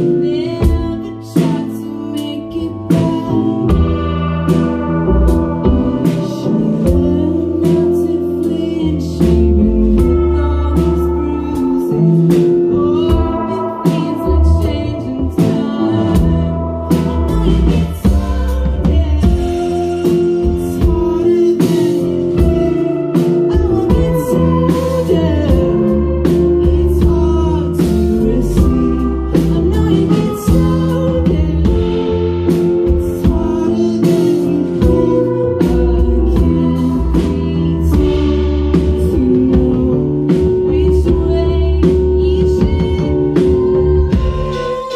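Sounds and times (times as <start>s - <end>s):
electric bass and guitars: 0.0s - 44.9s
live rock band: 0.0s - 44.9s
person singing: 0.0s - 44.9s.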